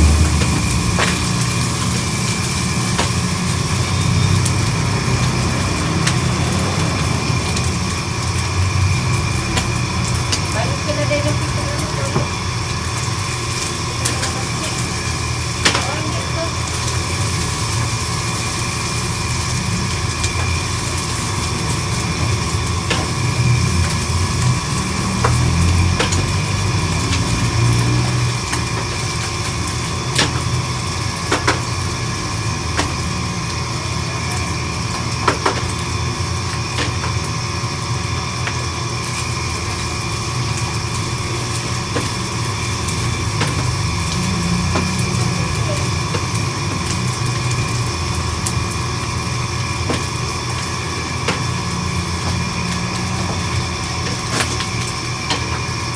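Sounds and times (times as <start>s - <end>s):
kitchen equipment drone: 0.0s - 55.9s.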